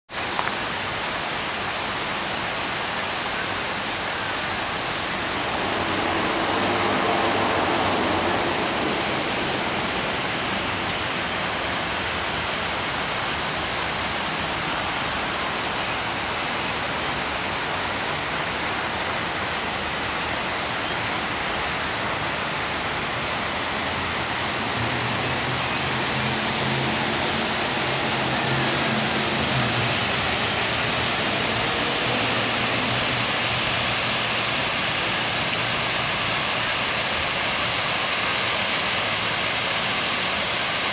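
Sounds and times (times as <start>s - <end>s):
fountain water rushing: 0.1s - 40.9s.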